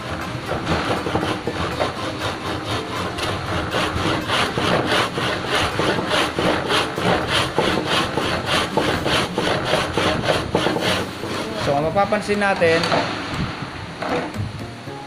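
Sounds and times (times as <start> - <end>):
hand saw cutting wood: 0.0 - 13.0.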